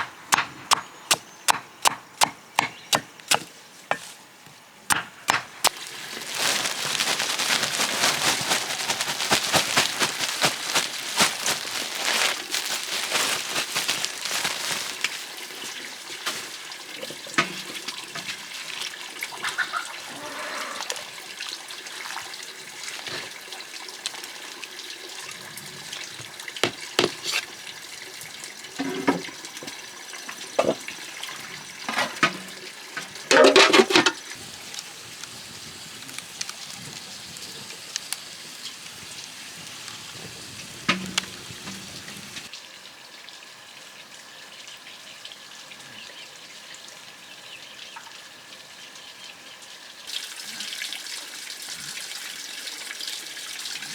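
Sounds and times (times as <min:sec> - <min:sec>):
water running and splashing: 0:04.9 - 0:42.5, 0:48.2 - 0:53.9.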